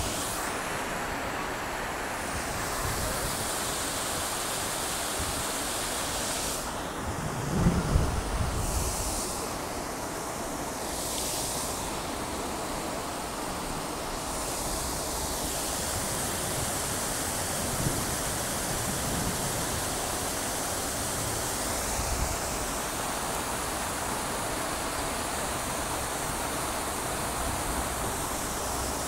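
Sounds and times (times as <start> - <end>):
fountain water splashing into pool: 0.0 - 29.0.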